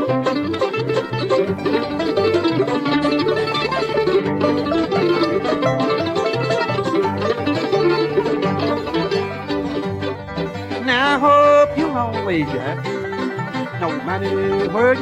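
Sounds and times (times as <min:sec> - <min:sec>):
acoustic guitar rhythm: 0:00.0 - 0:15.0
banjo and mandolin lead: 0:00.0 - 0:15.0
walking upright bass: 0:00.0 - 0:15.0.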